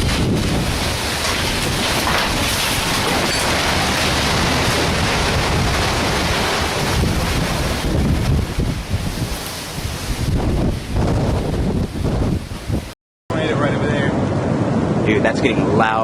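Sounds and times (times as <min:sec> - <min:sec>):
heavy rain: 0:00.0 - 0:16.0
storm wind: 0:00.0 - 0:16.0.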